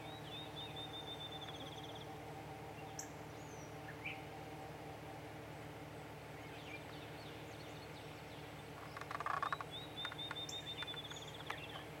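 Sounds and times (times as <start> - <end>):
songbirds chirping and trilling: 0.0 - 12.0
steady low hum: 0.0 - 12.0.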